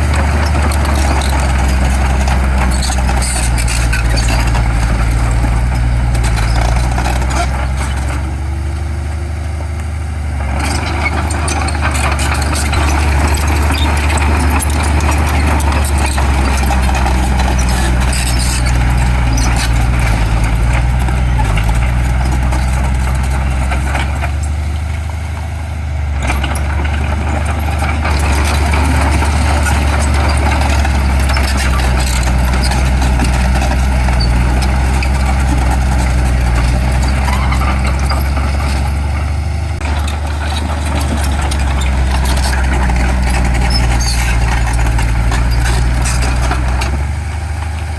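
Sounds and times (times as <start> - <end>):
diesel machinery engine hum: 0.0 - 47.9.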